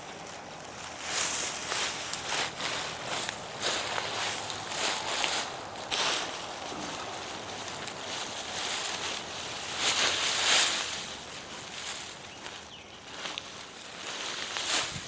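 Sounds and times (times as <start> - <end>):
soil and foliage rustling: 0.0 - 15.0.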